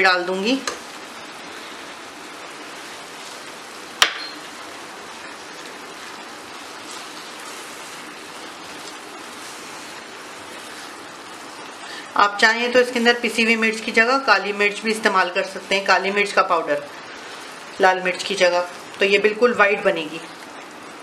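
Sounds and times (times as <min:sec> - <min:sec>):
paste sizzling in a frying pan: 0:00.2 - 0:21.0.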